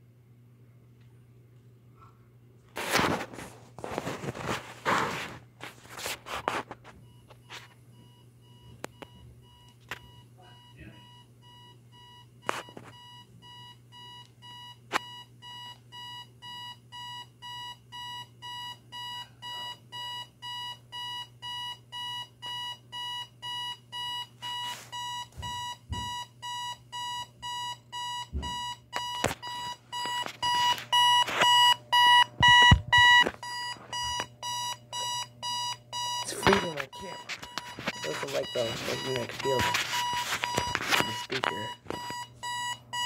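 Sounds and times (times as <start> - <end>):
steady low hum: 0.0 - 43.0
alarm clock buzzer beeping: 8.0 - 43.0.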